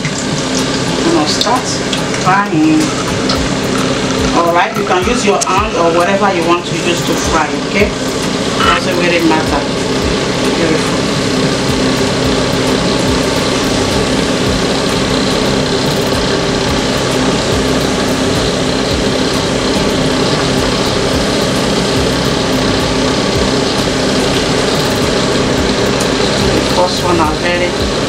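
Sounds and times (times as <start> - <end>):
batter sizzling in hot oil: 0.0 - 28.0
constant hum: 0.0 - 28.0.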